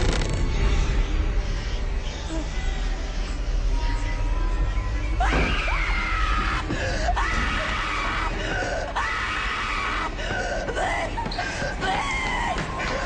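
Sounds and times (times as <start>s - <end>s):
low rumble of film score: 0.0s - 13.0s.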